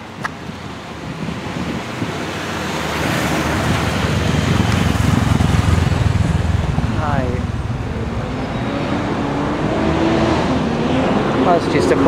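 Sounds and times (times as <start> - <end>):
vehicle engine rumble and tyre noise: 0.0 - 12.0.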